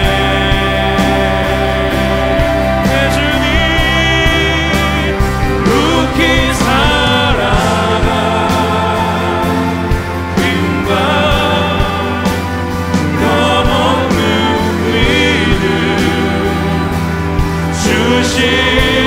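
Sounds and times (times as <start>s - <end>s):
keyboard: 0.0s - 19.0s
singers singing: 0.0s - 19.0s.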